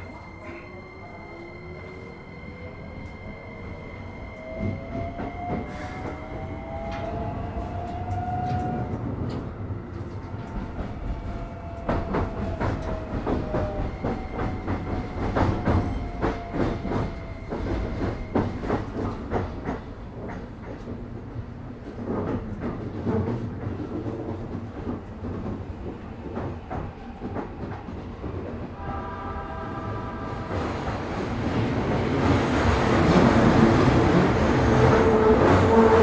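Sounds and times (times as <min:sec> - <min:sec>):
train rumble: 0:02.8 - 0:36.0.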